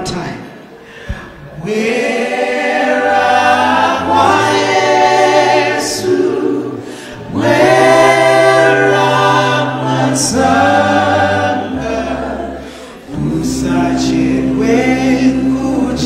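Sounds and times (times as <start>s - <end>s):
male group singing a cappella: 1.6s - 16.0s.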